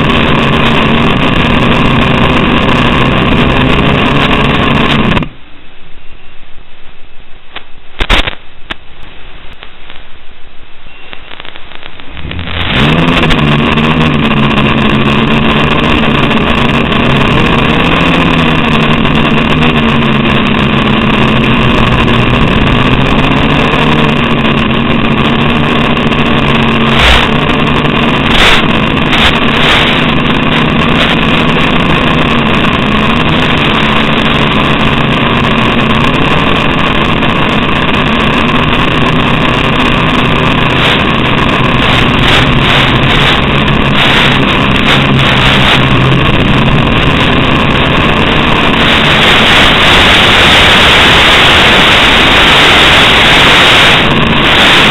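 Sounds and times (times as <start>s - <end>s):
quadcopter motors whining: 0.0s - 5.3s, 12.2s - 54.9s.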